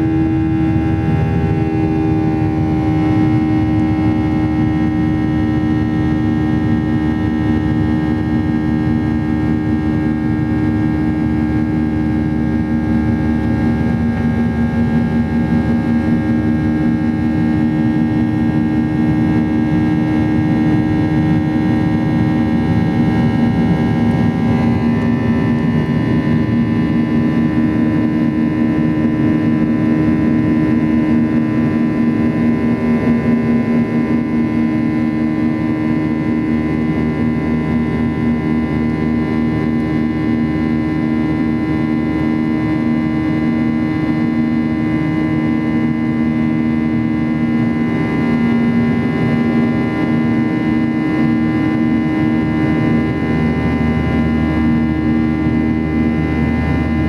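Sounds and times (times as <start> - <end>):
aircraft cabin engine drone: 0.0 - 57.0.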